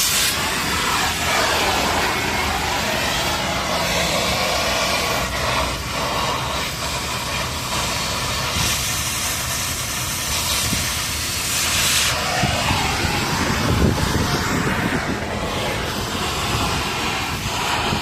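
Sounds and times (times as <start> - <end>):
workshop equipment hissing: 0.0 - 18.0.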